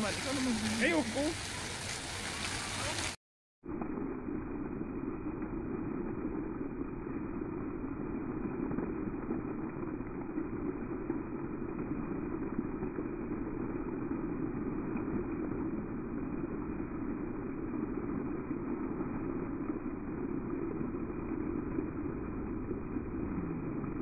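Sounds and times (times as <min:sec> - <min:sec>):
fountain water splashing on paving: 0:00.0 - 0:24.0.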